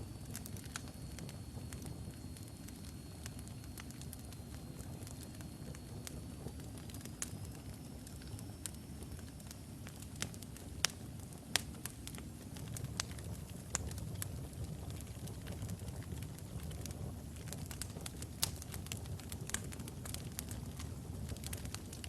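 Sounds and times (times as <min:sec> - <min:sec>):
burning logs crackling and popping: 0:00.0 - 0:22.0
fire flames rumbling: 0:00.0 - 0:22.0.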